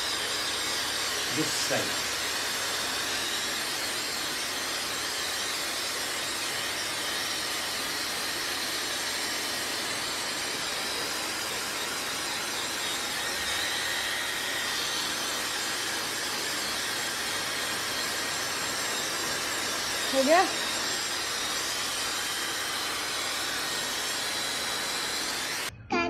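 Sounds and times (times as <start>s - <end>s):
hair dryer blowing: 0.0s - 25.7s.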